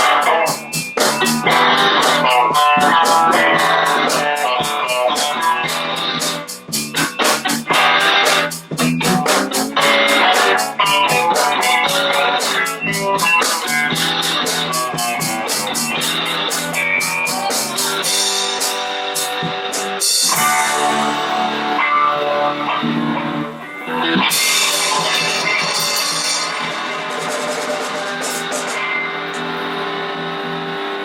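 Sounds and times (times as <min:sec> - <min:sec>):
live band playing: 0:00.0 - 0:29.8
guitar: 0:00.0 - 0:31.0.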